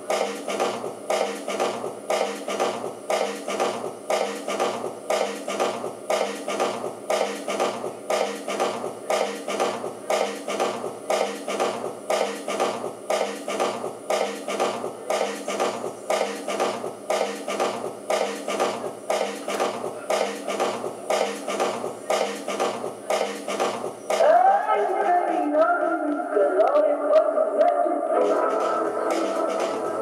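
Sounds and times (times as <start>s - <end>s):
rhythmic metallic clinking: 0.0s - 24.2s
steady electronic drone: 0.0s - 24.3s.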